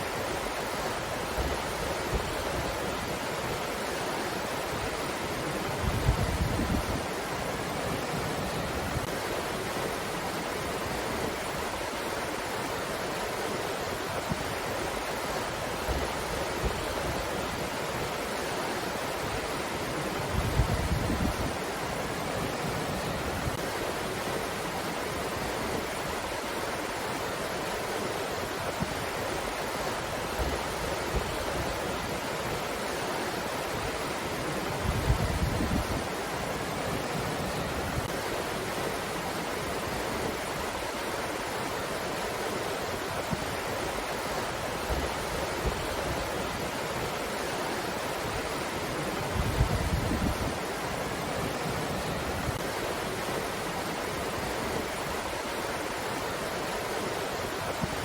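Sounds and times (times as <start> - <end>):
wind gusts on microphone: 0.1 - 12.1, 14.0 - 27.4, 28.3 - 58.0.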